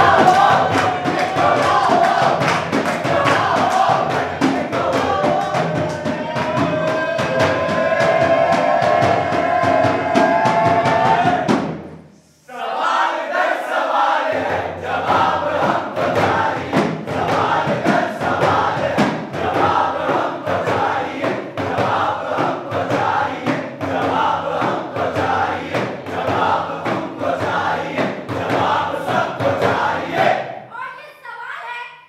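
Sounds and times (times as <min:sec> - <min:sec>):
frame drum beating: 0:00.0 - 0:12.1, 0:14.3 - 0:30.7
group chanting in rhythm: 0:00.0 - 0:30.7.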